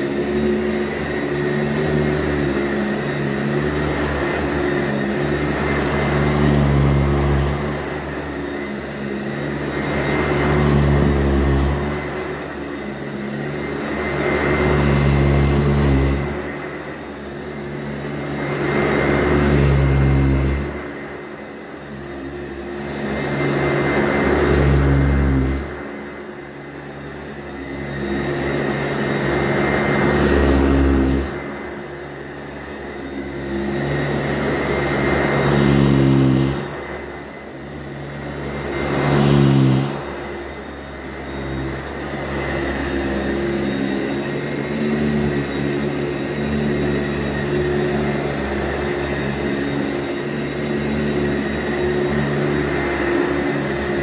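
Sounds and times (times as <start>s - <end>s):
vacuum cleaner running over carpet: 0.0s - 54.0s.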